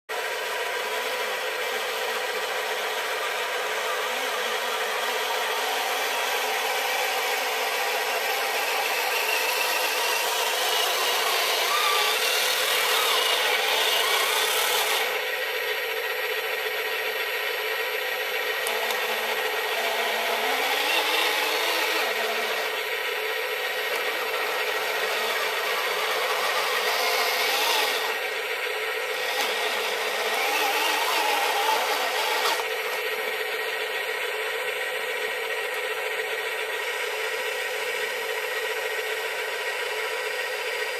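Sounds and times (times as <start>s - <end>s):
toy truck electric motor whining: 0.4s - 40.9s.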